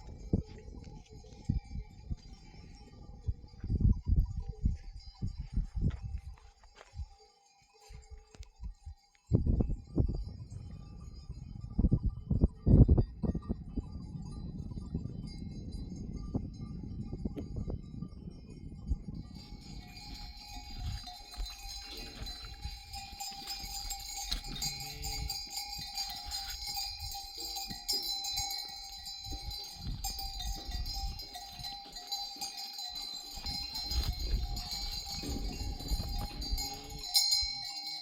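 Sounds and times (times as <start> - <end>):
animal bells clinking: 0.0 - 38.0.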